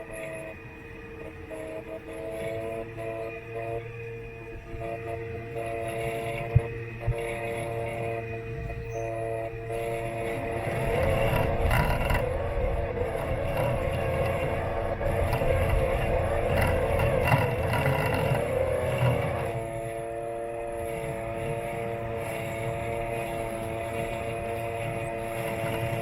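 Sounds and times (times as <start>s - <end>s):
electric motors whining: 0.0s - 26.0s.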